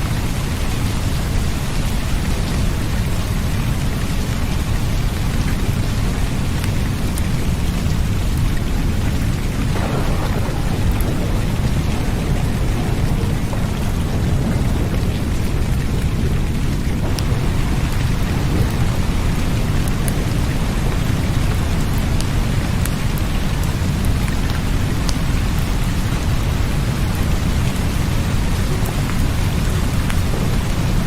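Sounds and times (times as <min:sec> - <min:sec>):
low rumble of thunder: 0:00.0 - 0:31.0
steady rain: 0:00.0 - 0:31.0.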